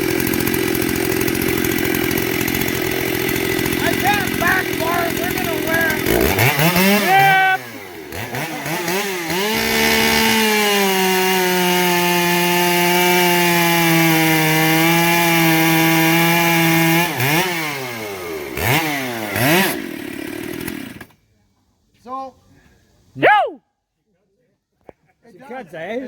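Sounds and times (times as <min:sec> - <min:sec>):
chainsaw revving and cutting: 0:00.0 - 0:21.2.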